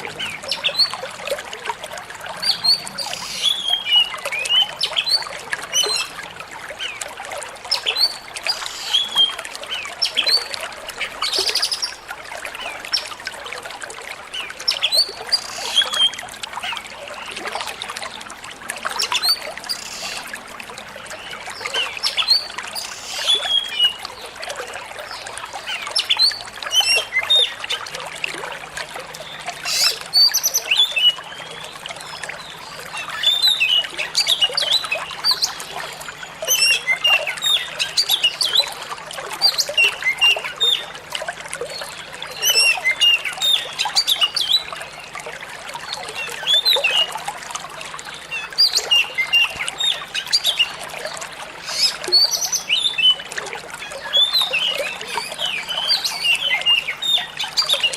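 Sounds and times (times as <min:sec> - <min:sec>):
trickle of running water: 0:00.0 - 0:57.9.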